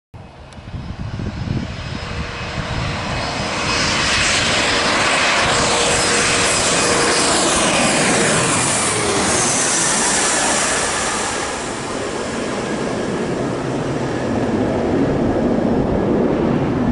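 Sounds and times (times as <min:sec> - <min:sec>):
jet engines whining: 0:00.2 - 0:16.9.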